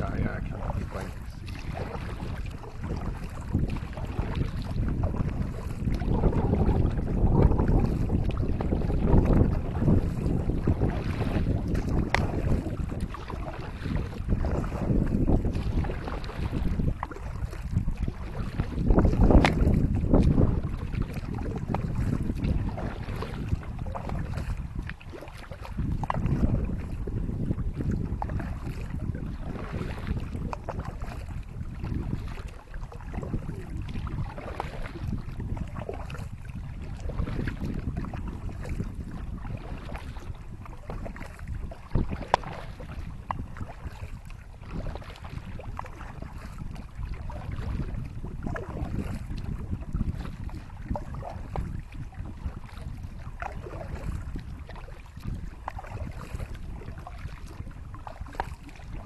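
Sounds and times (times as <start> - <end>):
paddle splashing water: 0.0 - 59.0
wind on microphone: 0.0 - 59.0.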